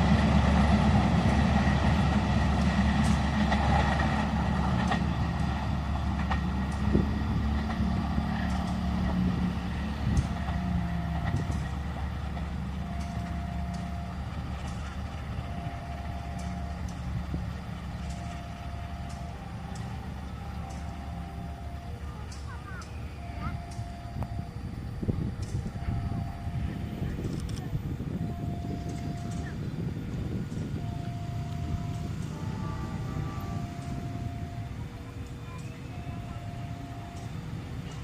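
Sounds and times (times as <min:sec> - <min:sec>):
diesel train engine running: 0:00.0 - 0:38.0.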